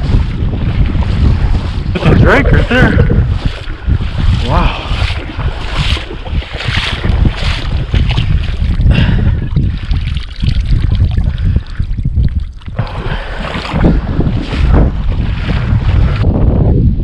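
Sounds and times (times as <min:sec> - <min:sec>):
water splashing from wading: 0:00.0 - 0:16.2
wind buffeting microphone: 0:00.0 - 0:17.0.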